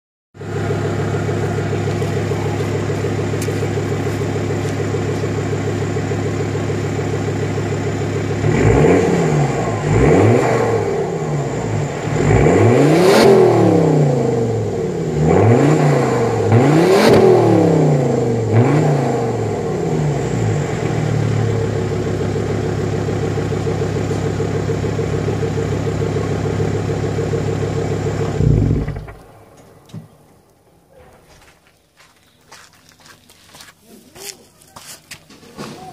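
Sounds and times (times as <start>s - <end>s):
diesel engine idling and revving: 0.4s - 30.6s.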